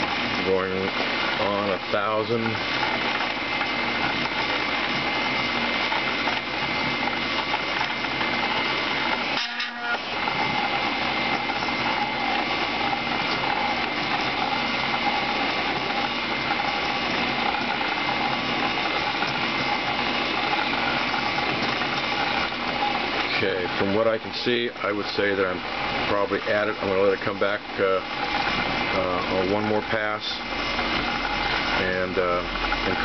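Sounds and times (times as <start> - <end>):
coil winder whining: 0.0 - 33.0.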